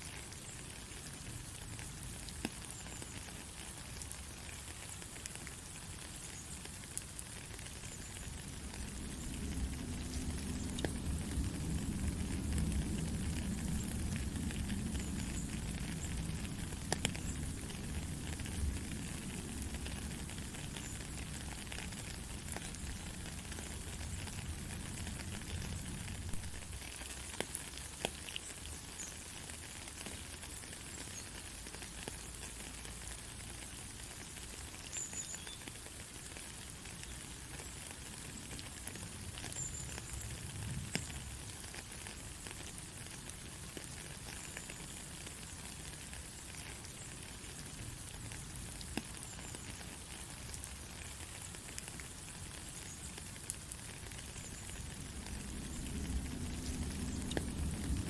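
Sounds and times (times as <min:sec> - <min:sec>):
steady rain hiss: 0:00.0 - 0:58.0
raindrops ticking: 0:00.1 - 0:58.0.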